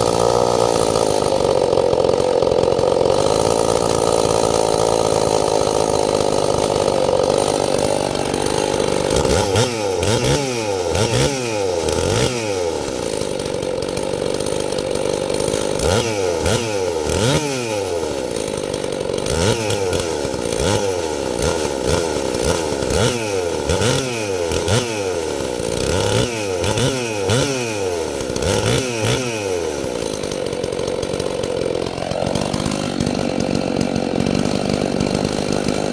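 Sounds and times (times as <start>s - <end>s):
chainsaw engine revving: 0.0s - 35.9s.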